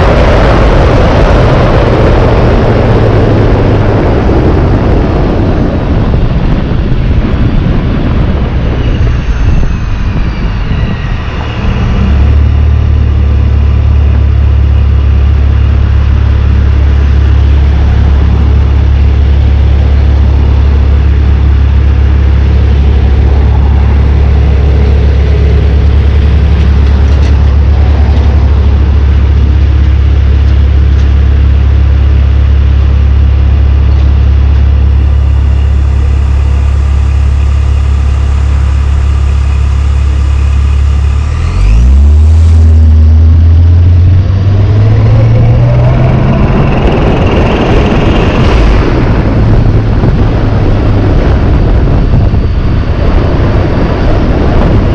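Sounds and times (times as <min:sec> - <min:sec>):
car engine drone: 0:00.0 - 0:54.9
supercharger whine: 0:00.0 - 0:54.9.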